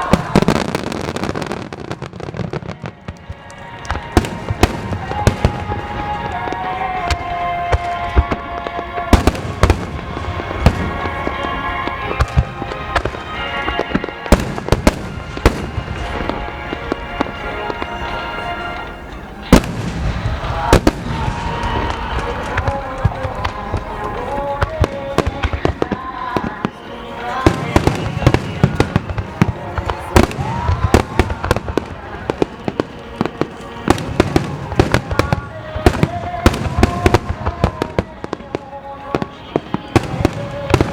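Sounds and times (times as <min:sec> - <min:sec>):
fireworks bursting: 0:00.0 - 0:40.9
music over loudspeakers: 0:00.0 - 0:40.9.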